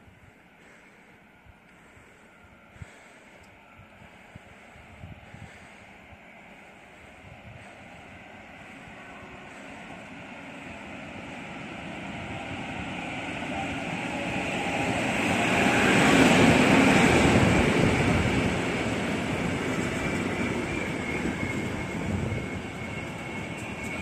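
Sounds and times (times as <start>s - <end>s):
train passing: 0.0s - 24.0s.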